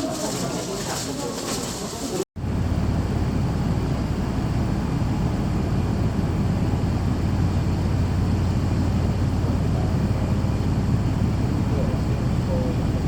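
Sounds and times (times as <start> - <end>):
ship engine drone: 2.4 - 13.0.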